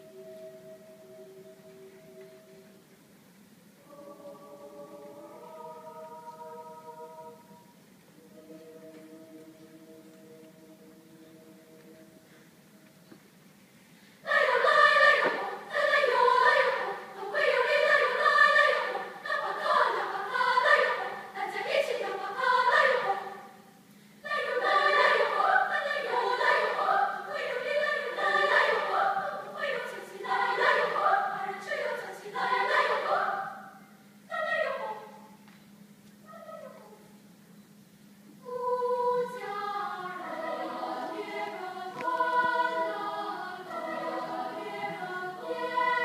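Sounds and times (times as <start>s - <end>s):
choir singing: 3.8s - 12.9s, 14.2s - 35.4s, 38.4s - 46.0s.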